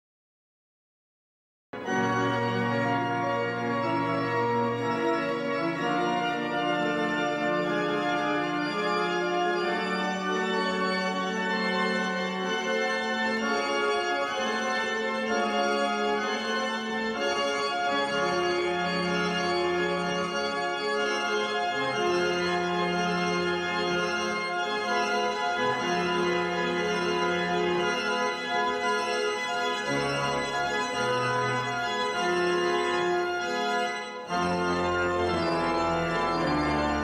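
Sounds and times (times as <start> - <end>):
organ playing slow chords: 1.8 - 37.0.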